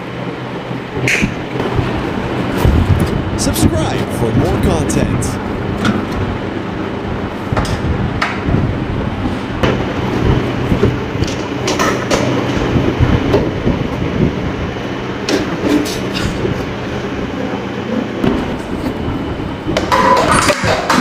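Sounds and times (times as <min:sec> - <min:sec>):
air conditioner rattling and humming: 0:00.0 - 0:21.0.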